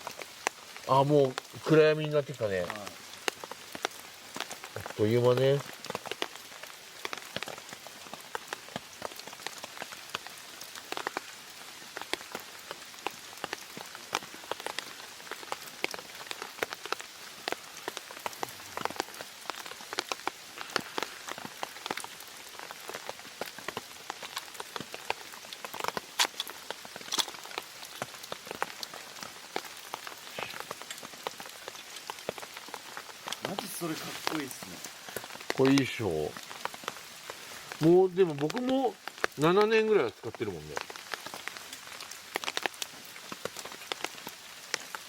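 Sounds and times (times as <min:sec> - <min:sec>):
rain hissing on a tarp: 0:00.0 - 0:45.0.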